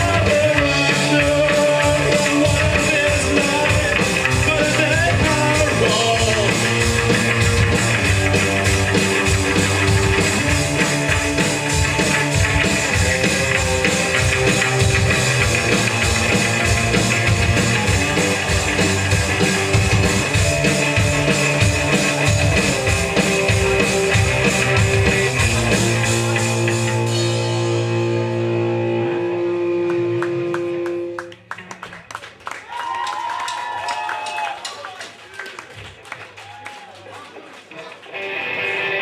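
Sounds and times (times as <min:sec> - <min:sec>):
punk rock band playing: 0:00.0 - 0:31.3, 0:38.2 - 0:39.0.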